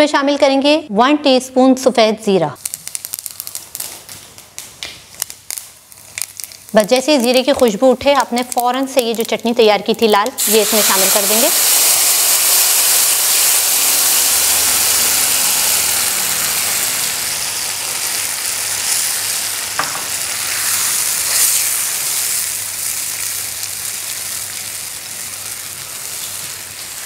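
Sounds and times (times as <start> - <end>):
paste sizzling in hot oil: 2.6 - 4.2, 5.0 - 27.0.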